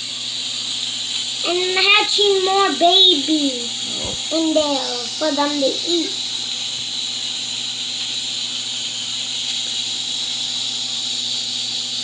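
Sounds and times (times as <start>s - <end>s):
aquarium filter water hiss: 0.0s - 12.0s.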